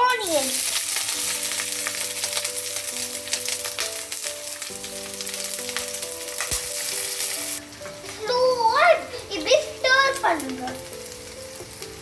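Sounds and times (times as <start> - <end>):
background music of held notes: 0.0 - 12.0
onions sizzling in oil: 0.0 - 12.0.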